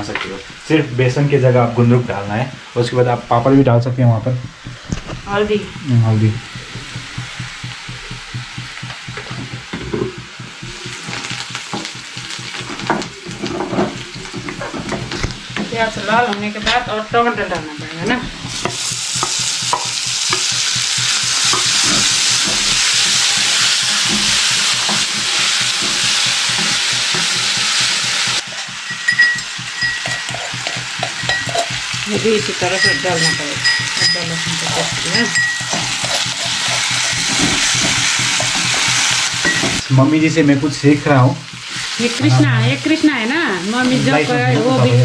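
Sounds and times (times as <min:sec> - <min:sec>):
tomatoes sizzling in hot oil: 0:00.0 - 0:45.0
spatula scraping a wok: 0:04.4 - 0:39.9, 0:41.1 - 0:43.0.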